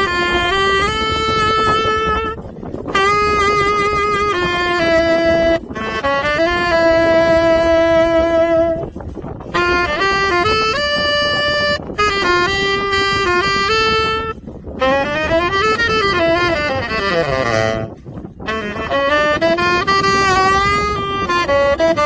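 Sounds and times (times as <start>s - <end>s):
saxophone slow melody: 0.0s - 22.0s.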